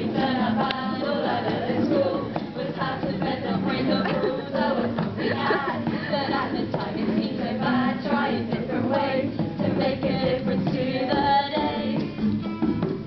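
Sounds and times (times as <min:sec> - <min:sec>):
people singing together: 0:00.0 - 0:12.2
acoustic guitars playing: 0:00.0 - 0:13.0.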